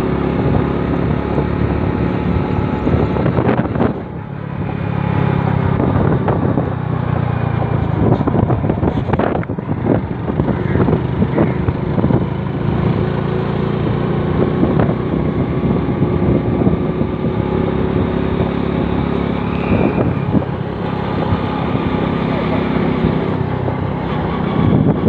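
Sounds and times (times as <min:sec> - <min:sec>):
motorcycle engine running: 0:00.0 - 0:25.0
wind on microphone: 0:00.0 - 0:25.0.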